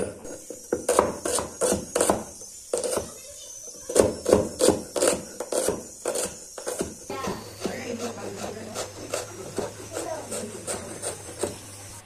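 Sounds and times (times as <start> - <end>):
cleaver chopping on wooden board: 0.0 - 3.1, 3.9 - 11.6.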